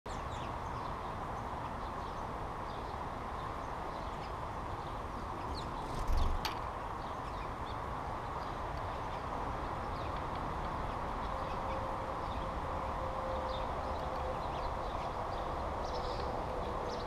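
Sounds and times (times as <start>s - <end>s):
songbirds chirping: 0.1s - 17.0s
steady background noise: 0.1s - 17.0s.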